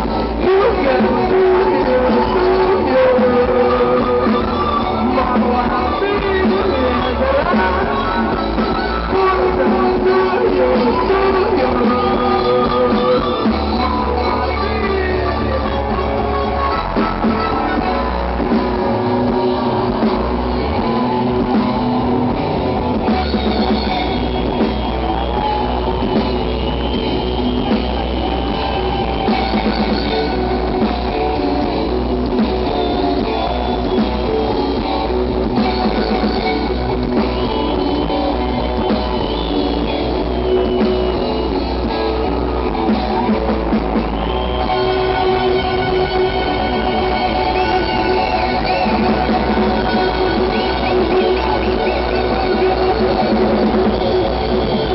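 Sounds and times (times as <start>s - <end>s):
rock band playing: 0.0s - 54.9s.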